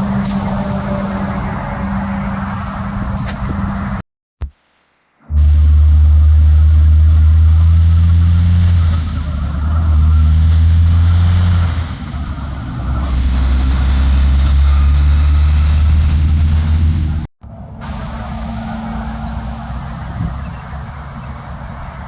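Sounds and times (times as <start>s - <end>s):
truck diesel engine: 0.0s - 4.0s, 5.2s - 22.0s.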